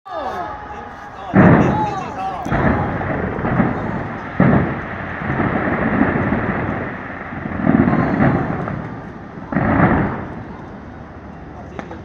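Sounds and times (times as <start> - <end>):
fireworks booming: 0.1 - 12.0
rumbling echoes: 0.1 - 12.0.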